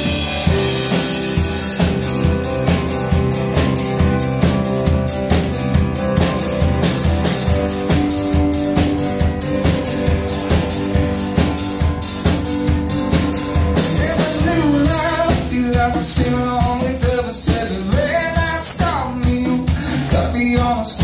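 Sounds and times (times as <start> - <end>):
bass guitar: 0.0 - 21.0
digital piano: 0.0 - 21.0
drum kit beat: 0.0 - 21.0
electric guitar: 0.0 - 21.0.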